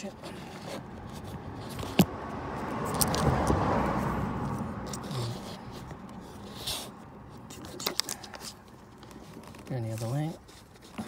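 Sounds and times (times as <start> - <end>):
hand rubbing and rustling: 0.0 - 11.0.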